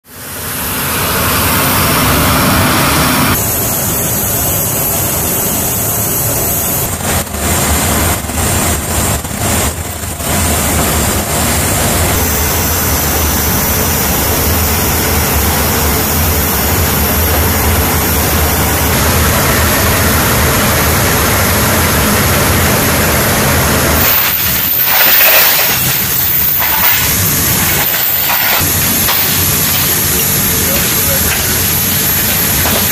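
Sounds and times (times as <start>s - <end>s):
jet engines running: 0.0s - 32.9s.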